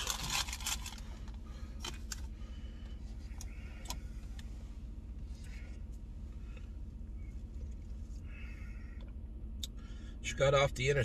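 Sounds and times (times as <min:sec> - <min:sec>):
faint hum: 0:00.0 - 0:11.0
low rumble inside truck cab: 0:00.0 - 0:11.0.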